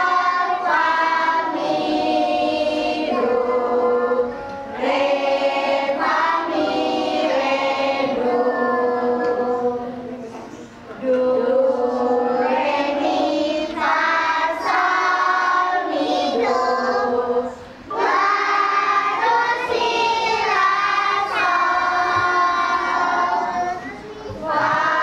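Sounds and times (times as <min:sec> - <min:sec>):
children singing in unison: 0:00.0 - 0:25.0.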